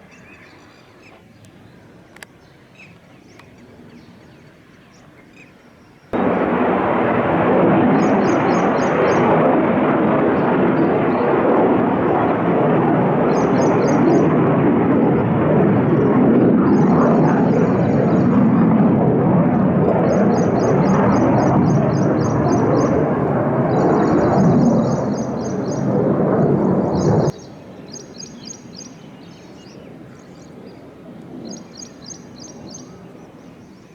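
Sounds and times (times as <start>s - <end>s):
jet engine roar: 6.2s - 33.8s.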